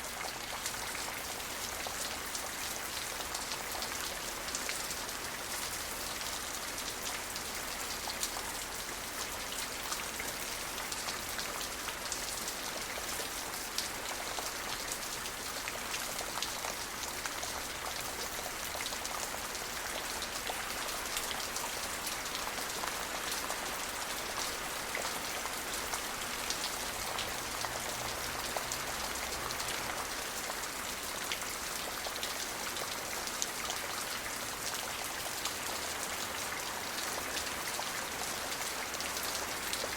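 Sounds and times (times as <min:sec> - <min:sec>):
rain falling on surfaces: 0:00.0 - 0:39.9.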